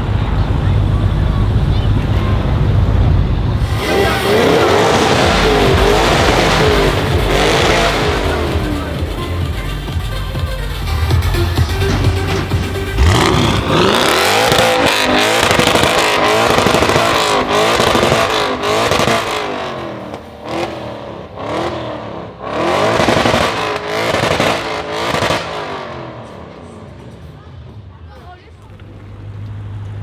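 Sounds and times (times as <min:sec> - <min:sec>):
car engine revving: 0:00.0 - 0:30.0
exhaust crackles: 0:00.0 - 0:30.0.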